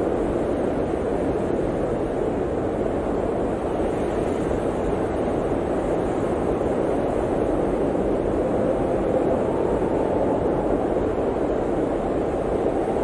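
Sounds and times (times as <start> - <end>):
blizzard wind rushing: 0.0 - 13.0.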